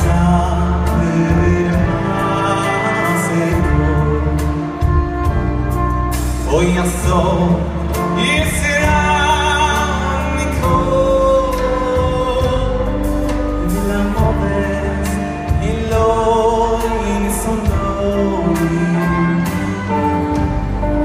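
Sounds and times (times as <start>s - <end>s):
live band playing: 0.0s - 21.0s
man singing live: 0.0s - 21.0s.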